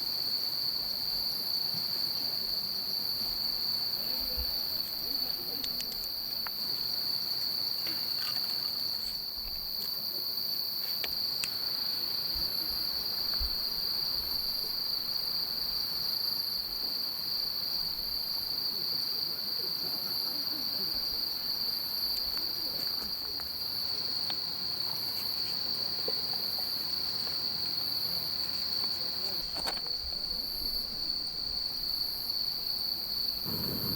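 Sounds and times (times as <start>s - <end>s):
crickets chirring: 0.0s - 33.9s.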